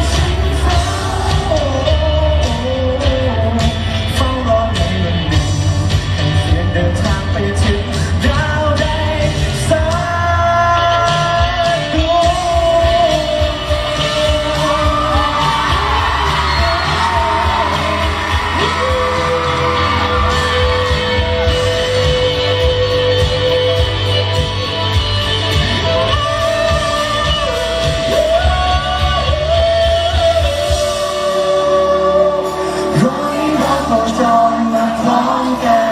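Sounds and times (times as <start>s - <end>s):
man singing into a microphone: 0.0s - 24.3s, 25.9s - 35.9s
amplified pop accompaniment: 0.0s - 35.9s.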